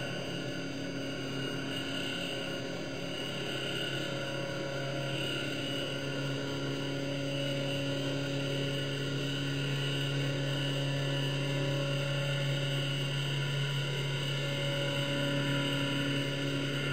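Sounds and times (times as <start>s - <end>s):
boat engine drone underwater: 0.0s - 16.9s.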